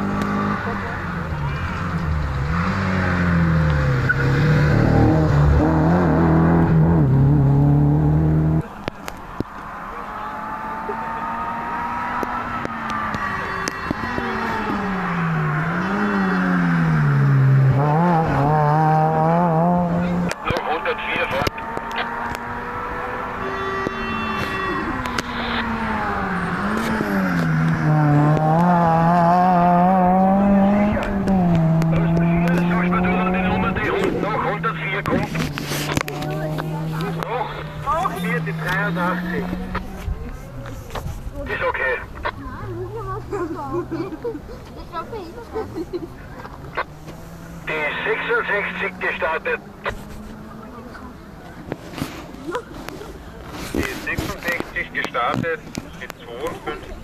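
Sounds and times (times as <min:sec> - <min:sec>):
distant rally car approaching: 0:00.0 - 0:57.0
rally car engine passing: 0:00.0 - 0:57.0.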